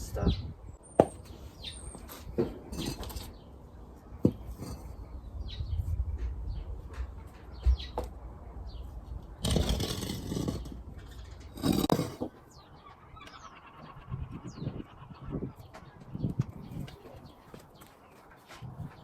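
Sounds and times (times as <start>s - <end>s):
small birds chirping: 0.0s - 4.2s, 4.8s - 19.0s.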